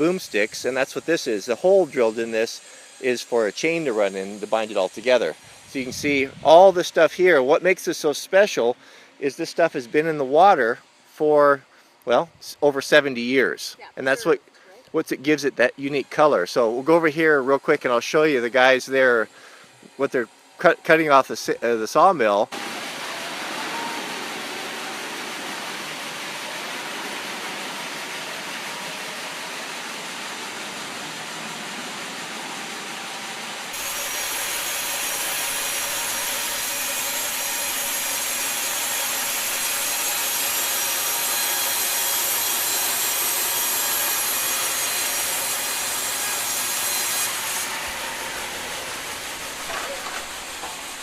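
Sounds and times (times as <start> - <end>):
saw blade cutting log: 0.0 - 6.6, 15.3 - 21.8, 22.5 - 51.0.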